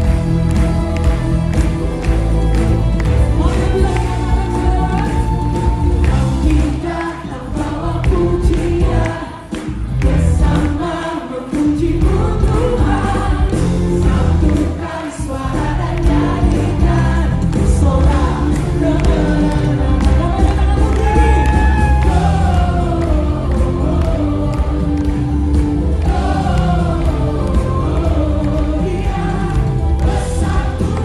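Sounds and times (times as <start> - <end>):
choir singing gospel song: 0.0 - 31.0
instrumental accompaniment with bass: 0.0 - 31.0.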